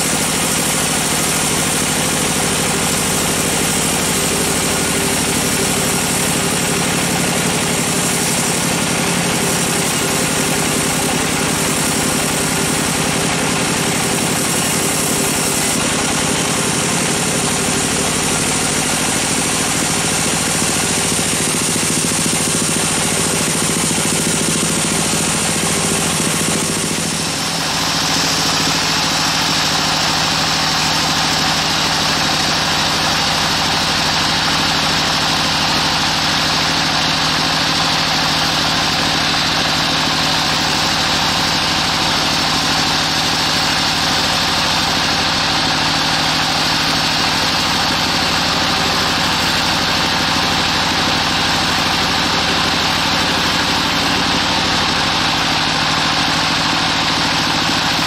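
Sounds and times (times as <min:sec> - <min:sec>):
saw blade hissing through log: 0:00.0 - 0:58.0
sawmill motor hum: 0:00.0 - 0:58.0.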